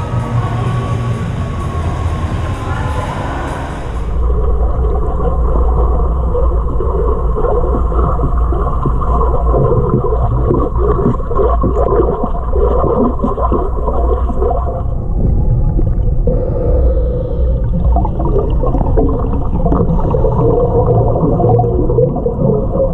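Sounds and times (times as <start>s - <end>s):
low underwater hum: 0.0s - 22.9s
water gurgling and churning: 3.1s - 22.9s.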